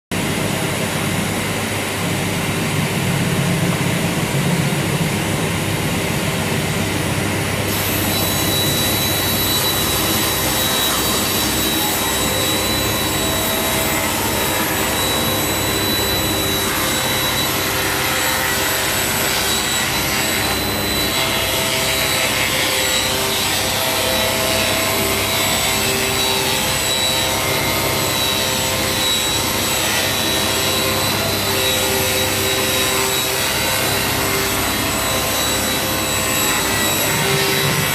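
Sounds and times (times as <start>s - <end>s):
high machine whine: 0.1s - 37.9s
table saw cutting wood: 6.5s - 37.9s.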